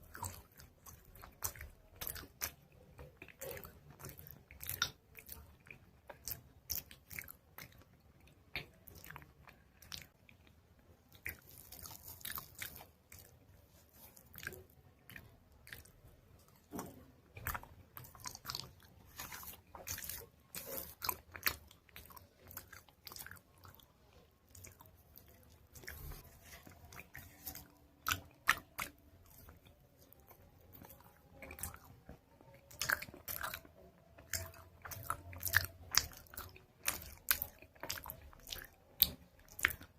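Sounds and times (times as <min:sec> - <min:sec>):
crunching chewing: 0:00.0 - 0:39.9.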